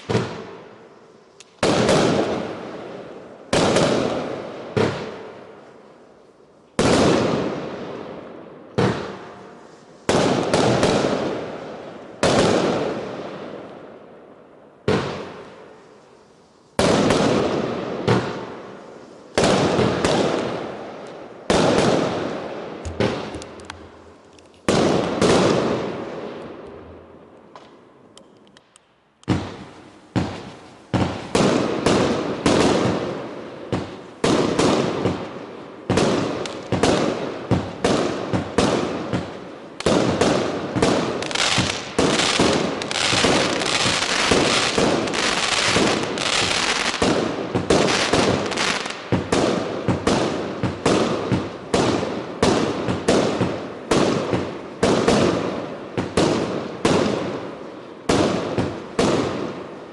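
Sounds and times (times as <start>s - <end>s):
fireworks bangs and crackle: 0.0s - 28.1s, 29.2s - 59.9s.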